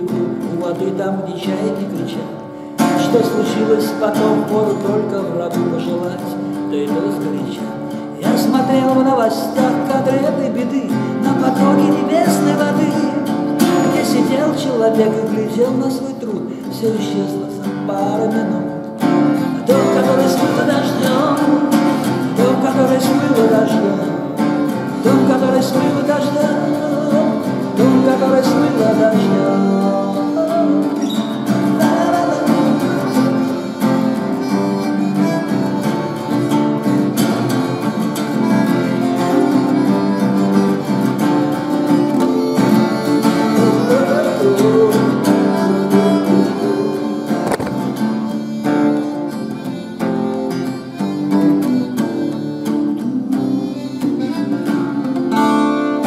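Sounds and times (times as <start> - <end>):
acoustic guitar song: 0.0 - 56.0.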